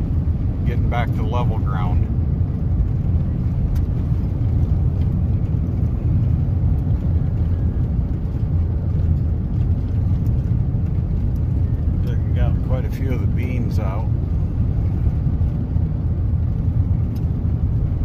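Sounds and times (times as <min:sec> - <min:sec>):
car driving on gravel road: 0:00.0 - 0:18.0.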